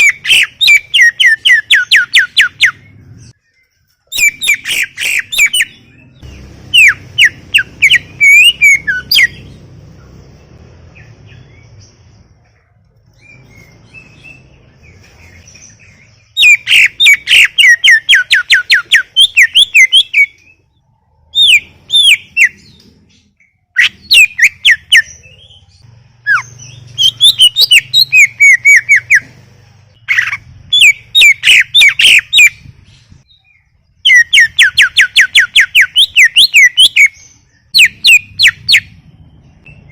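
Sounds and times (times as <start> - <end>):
bird whistling song: 0.0 - 9.6, 13.1 - 39.9.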